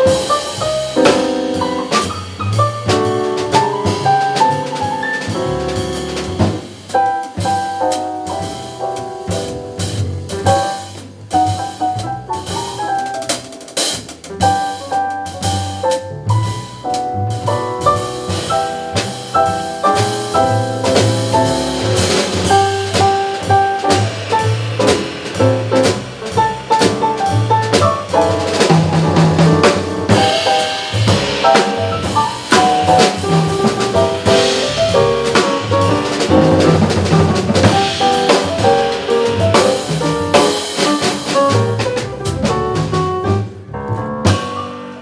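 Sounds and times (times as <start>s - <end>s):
keyboard playing piano chords: 0.0s - 10.8s, 11.8s - 45.0s
double bass walking: 0.0s - 44.8s
drum kit with cymbals: 0.0s - 45.0s.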